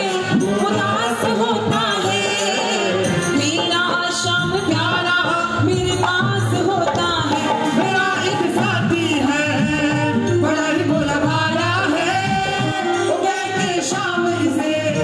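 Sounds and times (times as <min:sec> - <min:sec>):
keyboard accompaniment: 0:00.0 - 0:15.0
woman singing into microphone: 0:00.0 - 0:15.0.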